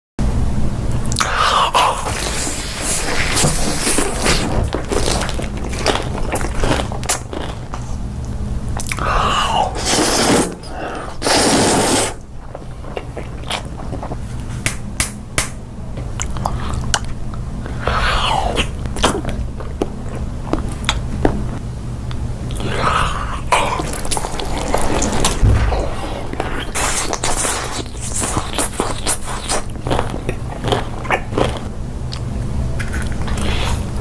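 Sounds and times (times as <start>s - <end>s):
crunchy chewing: 1.1s - 14.6s, 16.0s - 34.0s.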